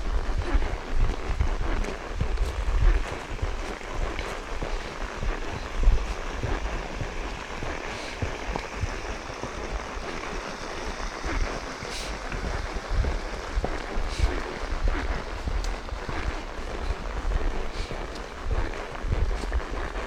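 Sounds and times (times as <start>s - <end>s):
hooves rustling through dry leaves: 0.0s - 20.0s
wind on microphone: 0.0s - 20.0s.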